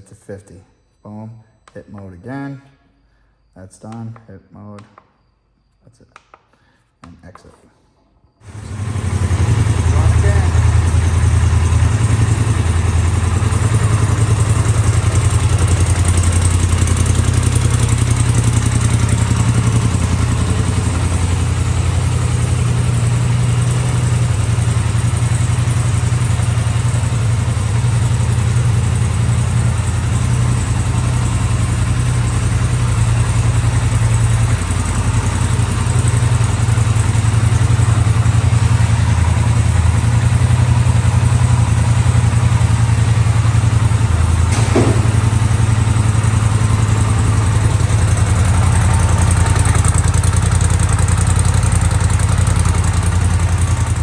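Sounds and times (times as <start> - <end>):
engine idling: 8.4 - 54.0.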